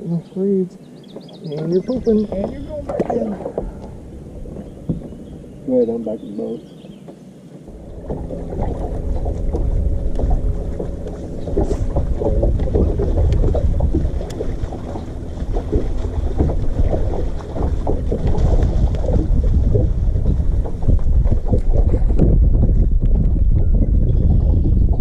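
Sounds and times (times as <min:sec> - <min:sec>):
waves lapping against hull: 0:00.0 - 0:25.0
wind rumbling on microphone: 0:00.0 - 0:25.0.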